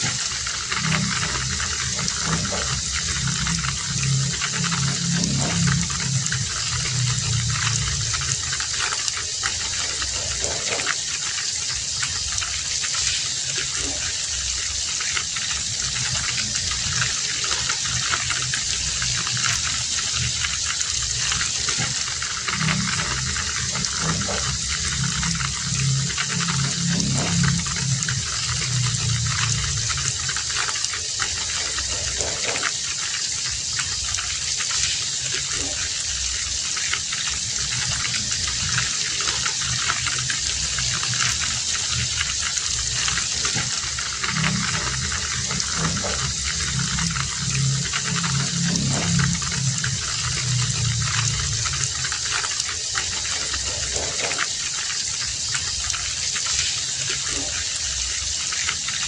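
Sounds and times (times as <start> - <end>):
heavy rain hissing: 0.0 - 59.0
rain drips and splashes: 0.0 - 59.0
running water rushing: 0.0 - 59.0.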